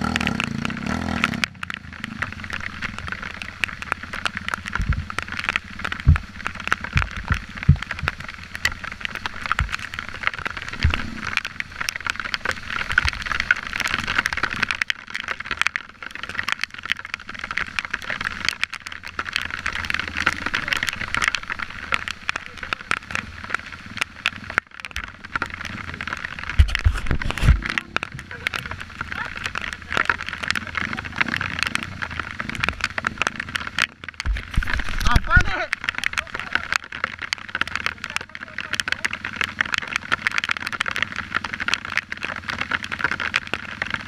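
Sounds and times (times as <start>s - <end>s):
bike riding over dirt track: 0.0s - 44.0s.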